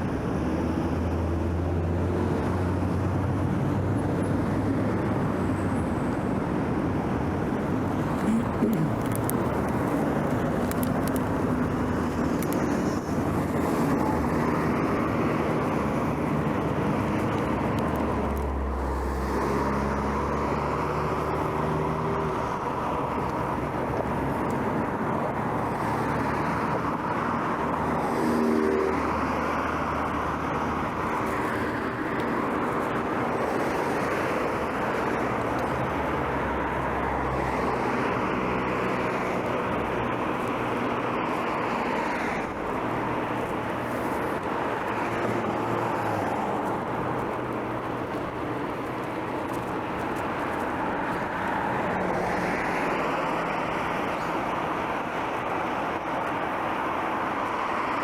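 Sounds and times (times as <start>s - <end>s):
cars passing: 0.0s - 58.0s
traffic roar: 0.0s - 58.0s.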